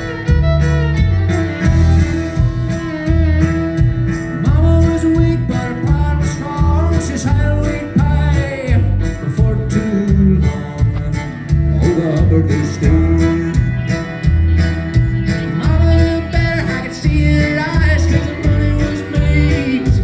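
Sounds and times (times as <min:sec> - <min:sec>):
bass notes: 0:00.0 - 0:20.0
fiddle melody with slides: 0:00.0 - 0:20.0
strummed acoustic guitar: 0:00.0 - 0:20.0.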